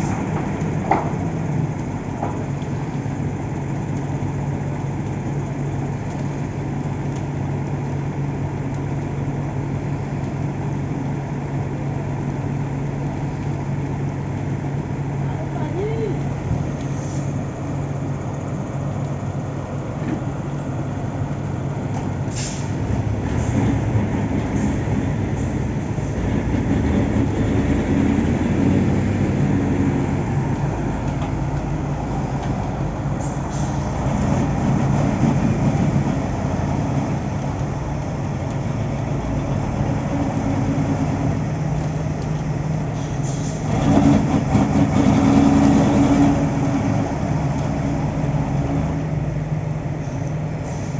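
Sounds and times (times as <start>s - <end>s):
diesel construction machinery running: 0.0s - 50.9s.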